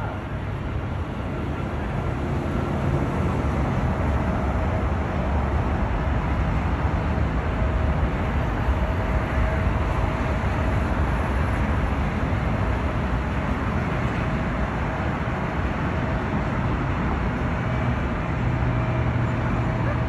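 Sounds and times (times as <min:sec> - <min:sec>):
distant engine roar: 0:00.0 - 0:20.0.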